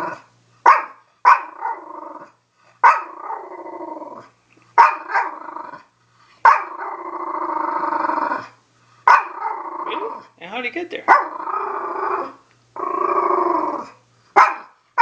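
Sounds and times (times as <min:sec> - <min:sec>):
dog barking and growling: 0:00.0 - 0:10.4, 0:11.0 - 0:15.0.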